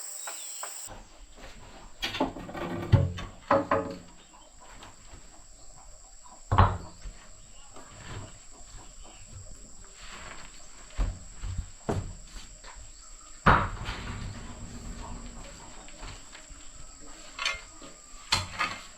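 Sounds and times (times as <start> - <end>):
insects trilling: 0.0 - 0.9, 3.2 - 18.9.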